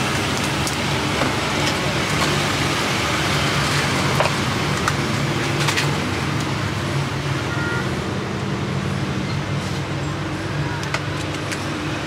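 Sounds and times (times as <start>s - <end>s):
roadside traffic hum: 0.0s - 12.0s.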